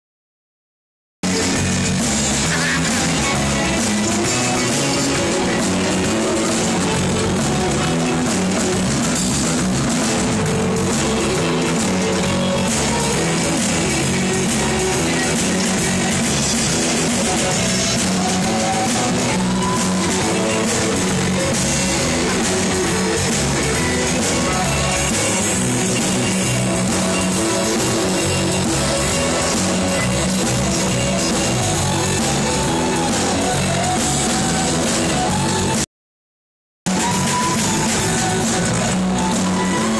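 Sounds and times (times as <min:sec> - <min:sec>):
rock music: 0:01.2 - 0:35.9, 0:36.9 - 0:39.9.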